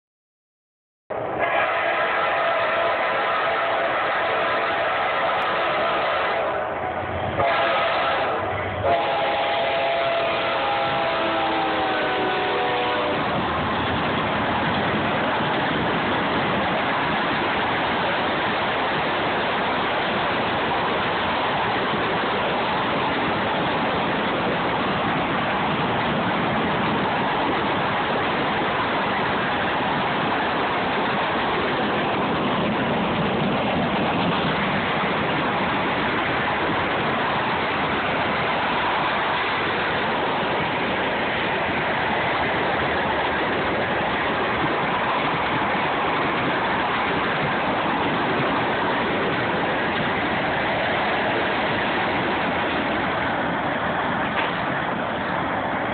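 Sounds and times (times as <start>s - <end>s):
train wheels rolling on rails: 1.1s - 55.9s.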